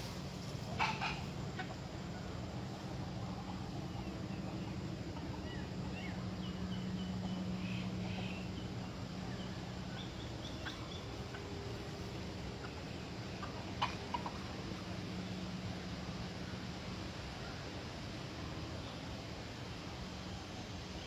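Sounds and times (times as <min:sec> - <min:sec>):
small birds chirping: 0:00.0 - 0:17.7
steady low hum: 0:00.0 - 0:21.0.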